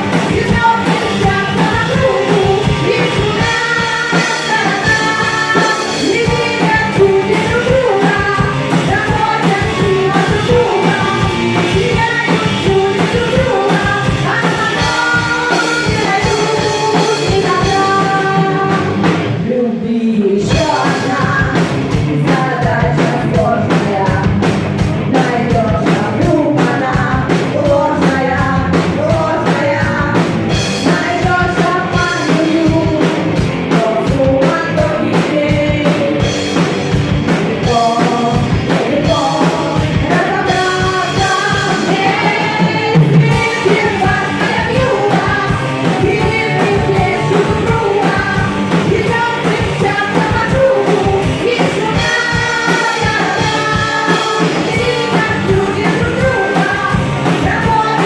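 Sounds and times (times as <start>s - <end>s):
drum kit beat: 0.0s - 19.5s, 20.4s - 58.0s
electric guitars: 0.0s - 58.0s
women singing: 0.0s - 58.0s.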